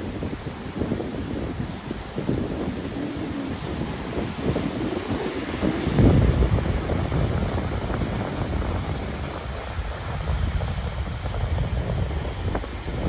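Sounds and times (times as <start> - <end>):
sea surf washing over rocks: 0.0 - 13.0
wind buffeting microphone: 0.0 - 13.0.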